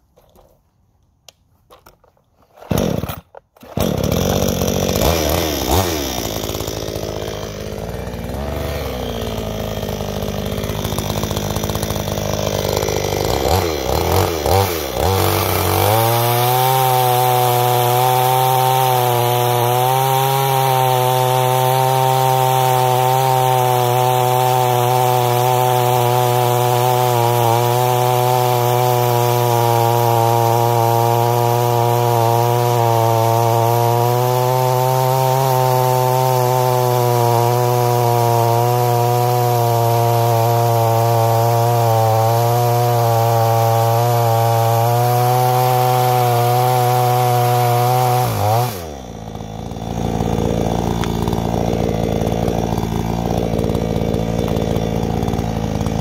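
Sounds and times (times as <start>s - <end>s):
chainsaw cutting log: 1.7s - 56.0s
chainsaw pull-start: 1.7s - 56.0s
chainsaw revving: 2.5s - 56.0s.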